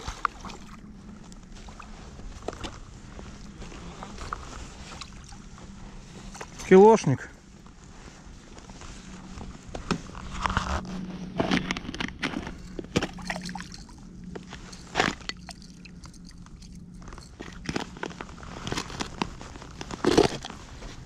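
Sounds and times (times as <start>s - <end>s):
faint low hum: 0.0s - 21.0s
footsteps crunching in snow: 0.8s - 21.0s.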